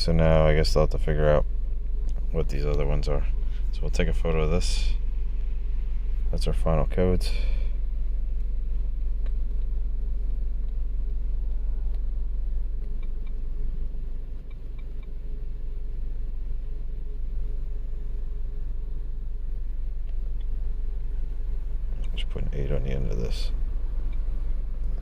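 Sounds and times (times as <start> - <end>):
deep rumble: 0.0 - 25.0
faint hum: 0.0 - 25.0.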